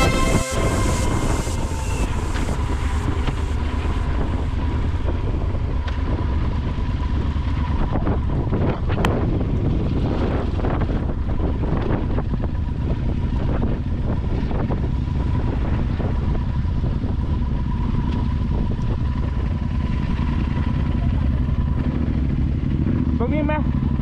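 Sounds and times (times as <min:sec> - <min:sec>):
wind buffeting microphone: 0:00.0 - 0:23.2
motorcycle engine running: 0:00.0 - 0:24.0.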